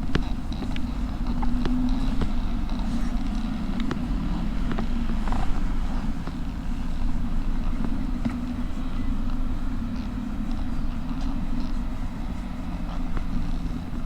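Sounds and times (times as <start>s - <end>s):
faint ticks: 0.0s - 14.0s
motorcycle engine running: 0.0s - 14.0s.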